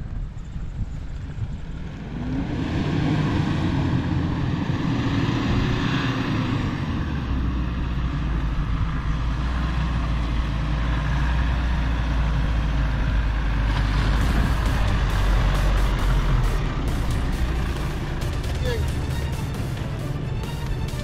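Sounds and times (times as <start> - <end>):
car engine running: 0.1 - 10.7, 11.6 - 21.0.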